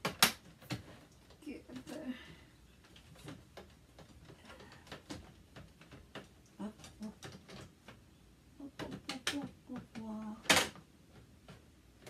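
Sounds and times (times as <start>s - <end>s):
plastic parts clicking and knocking: 0.0s - 2.0s, 2.8s - 12.0s.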